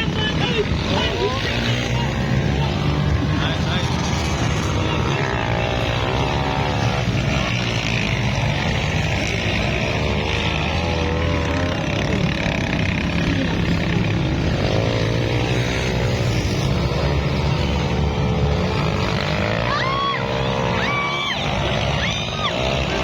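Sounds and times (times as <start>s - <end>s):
motorcycle engines revving: 0.0s - 23.0s
steady loud rushing noise: 0.0s - 23.0s.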